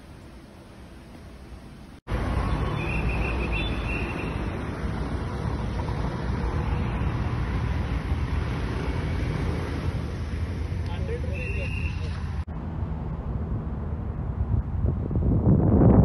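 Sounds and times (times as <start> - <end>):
loud outdoor rumble and hiss: 0.0 - 16.0.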